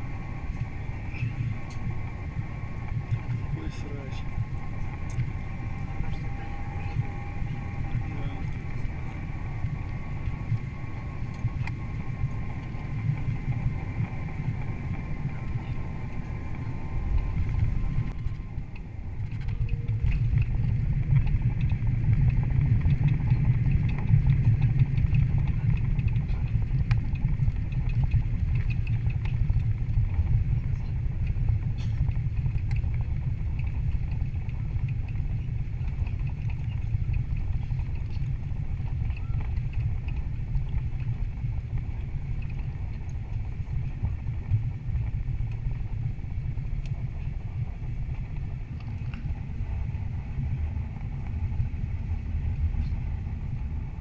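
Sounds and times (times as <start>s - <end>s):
faint whine: 0.0s - 54.0s
low rumble of engines and wheels: 0.0s - 54.0s.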